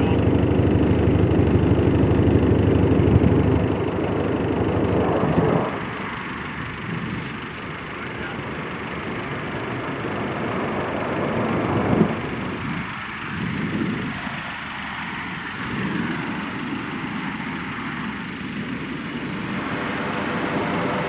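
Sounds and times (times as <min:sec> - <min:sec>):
aircraft turboprop engines roaring: 0:00.0 - 0:21.0.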